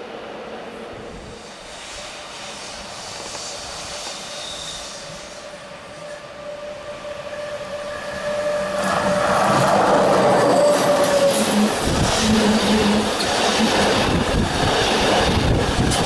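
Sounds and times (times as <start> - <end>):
electric train approaching: 0.0 - 16.0.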